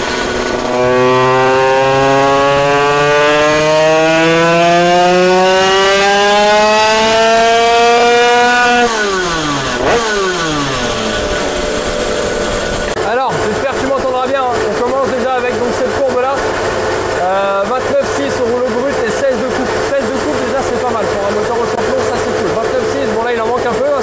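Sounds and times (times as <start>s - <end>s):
moped engine revving: 0.0s - 24.0s.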